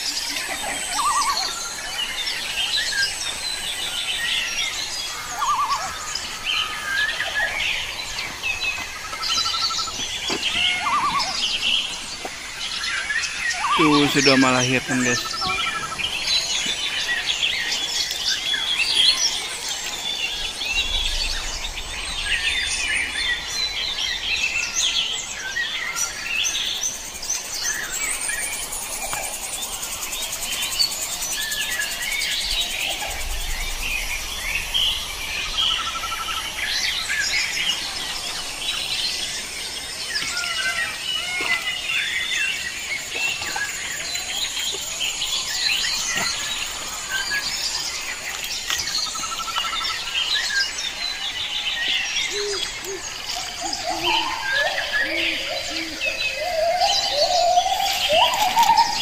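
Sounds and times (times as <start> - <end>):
birds chirping chorus: 0.0 - 59.0
insects: 0.0 - 59.0.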